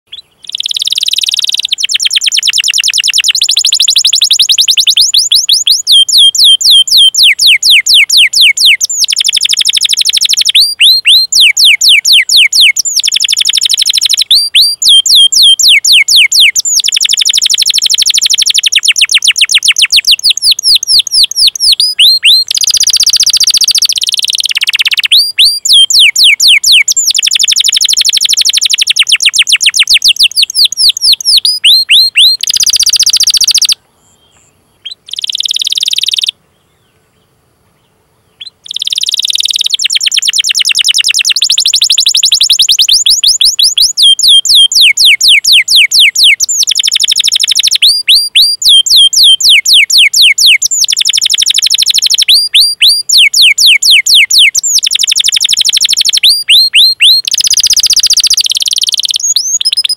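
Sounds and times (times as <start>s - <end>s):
canary singing: 0.1s - 36.4s, 38.4s - 59.9s.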